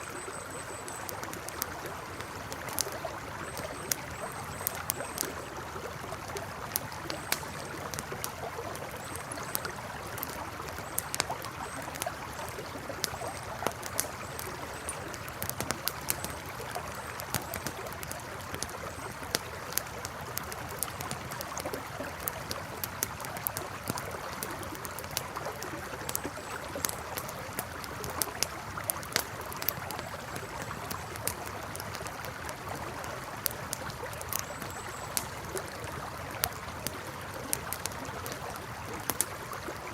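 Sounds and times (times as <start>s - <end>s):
campfire crackling: 0.0s - 39.9s
river water flowing: 0.0s - 39.9s.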